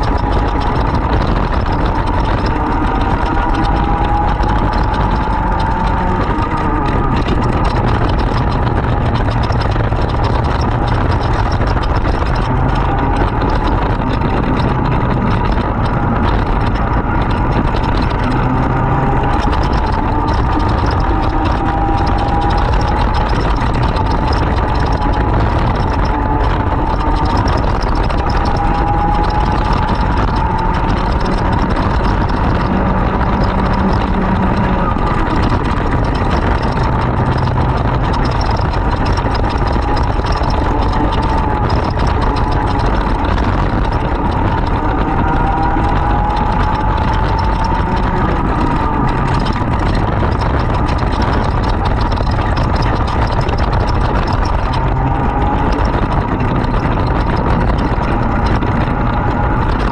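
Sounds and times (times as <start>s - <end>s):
kart engine revving: 0.0s - 59.9s
wind rumble: 0.0s - 59.9s.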